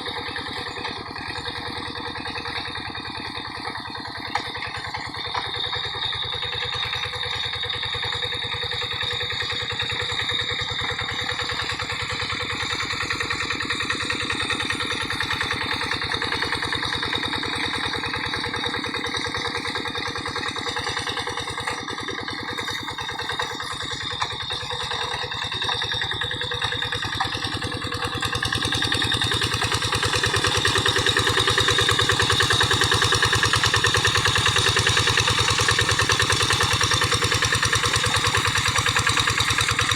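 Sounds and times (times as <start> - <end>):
hand tractor diesel engine running: 0.0 - 39.9.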